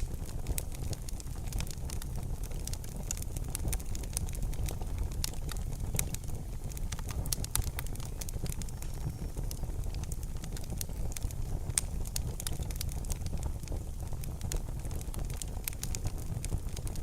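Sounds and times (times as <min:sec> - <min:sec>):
fire crackling and popping: 0:00.0 - 0:17.0
low sound of burning: 0:00.0 - 0:17.0.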